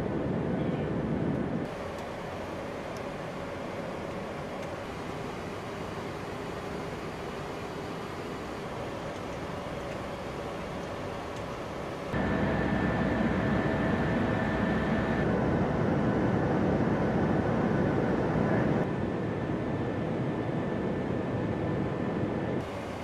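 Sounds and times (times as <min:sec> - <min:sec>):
faint steady whine: 0:00.0 - 0:23.0
jet engine and airflow noise: 0:00.0 - 0:23.0.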